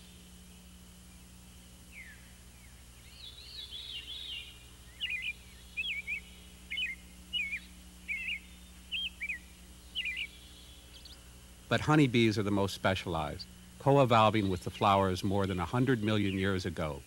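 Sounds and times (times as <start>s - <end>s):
songbird twittering and chirping: 0.0s - 17.0s
steady low hum: 0.0s - 17.0s.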